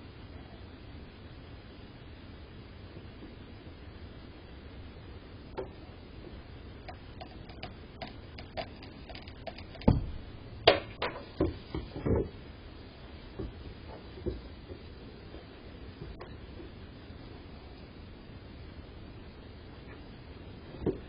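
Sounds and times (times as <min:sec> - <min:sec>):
low microphone hiss: 0:00.0 - 0:21.0.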